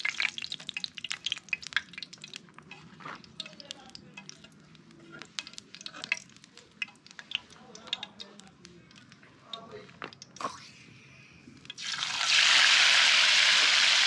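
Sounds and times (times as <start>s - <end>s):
fish frying in oil: 0.0s - 9.4s, 11.7s - 14.0s.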